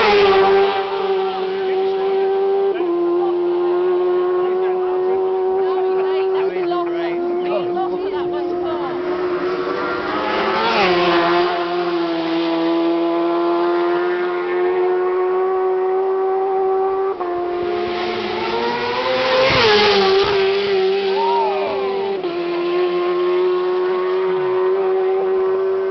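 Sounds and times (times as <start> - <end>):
motorcycle passing by: 0.0 - 25.9
racing motorcycle engines revving high: 0.0 - 25.9.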